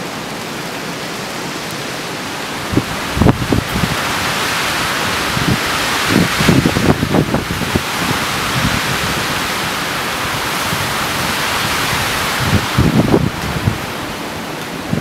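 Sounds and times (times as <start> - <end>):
driving rain: 0.0 - 15.0
storm wind rushing through trees: 0.0 - 15.0
wind buffeting microphone: 2.4 - 15.0.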